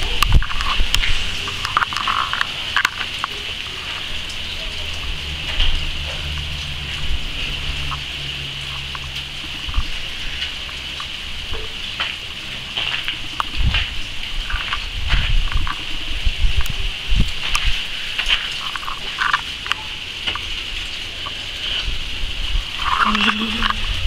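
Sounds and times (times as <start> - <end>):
hail pattering on roofs: 0.0 - 24.0.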